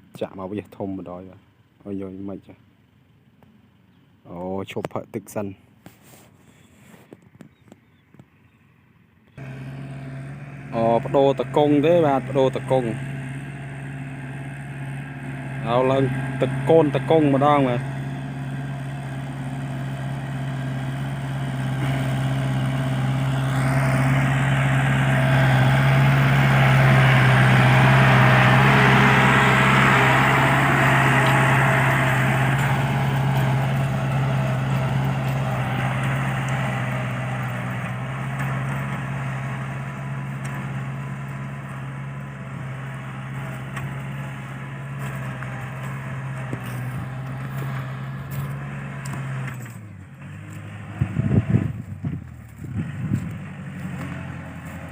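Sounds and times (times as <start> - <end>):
tractor diesel engine running: 0.0 - 7.6, 9.0 - 54.9.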